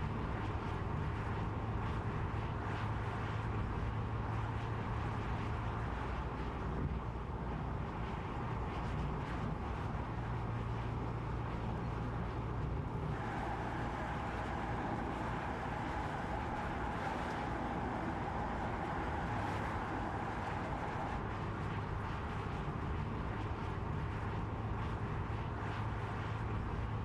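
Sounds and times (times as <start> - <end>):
car road noise with low hum: 0.0 - 27.0.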